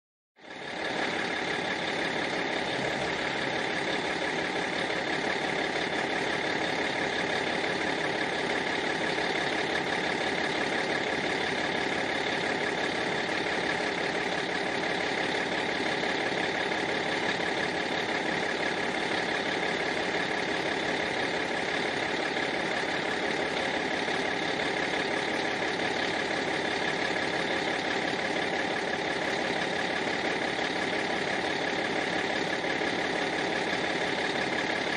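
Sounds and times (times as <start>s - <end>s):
bus engine idling: 0.5s - 34.9s.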